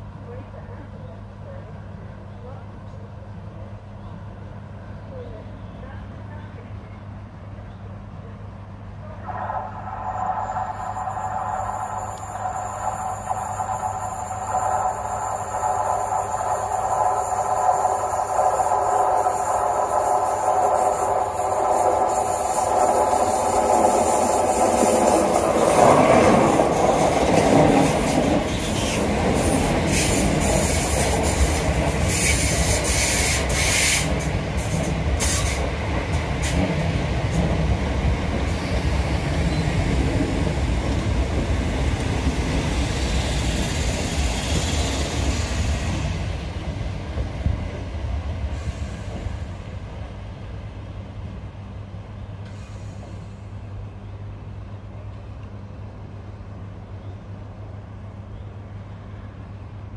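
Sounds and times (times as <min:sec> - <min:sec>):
passenger train passing: 0:00.0 - 0:59.9.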